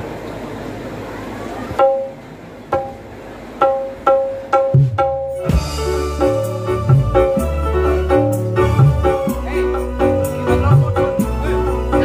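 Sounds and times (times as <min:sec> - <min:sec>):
band with bass and keyboard: 0:00.0 - 0:12.0
hand drum strokes: 0:01.7 - 0:03.0, 0:03.6 - 0:12.0.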